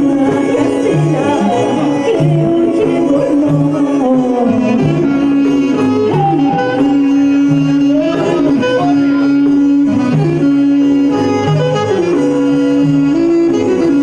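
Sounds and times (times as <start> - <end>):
clarinet-led folk band: 0.0 - 14.0
frame drum: 0.0 - 14.0.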